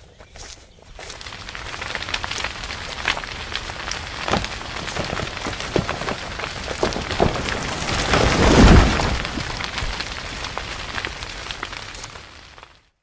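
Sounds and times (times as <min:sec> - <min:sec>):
rain pattering: 0:01.0 - 0:13.0.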